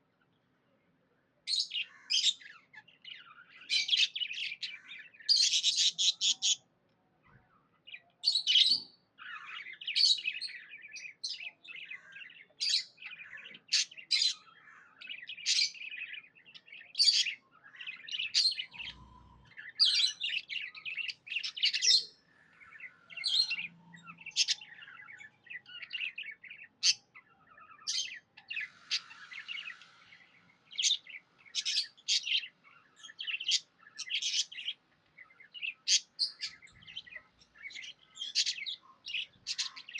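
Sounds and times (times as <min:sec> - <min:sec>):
budgerigars chirping: 0:01.6 - 0:06.6, 0:08.3 - 0:34.8, 0:35.6 - 0:39.9.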